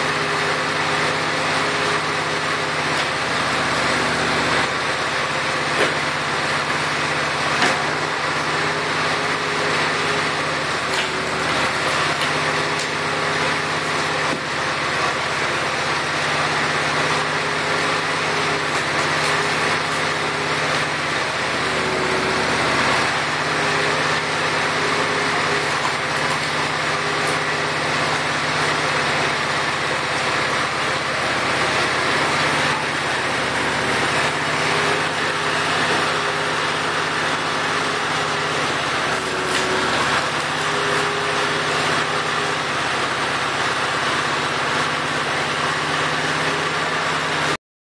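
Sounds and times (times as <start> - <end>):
tractor engine running: 0.0 - 47.5
hydraulic pump whine: 0.0 - 47.6.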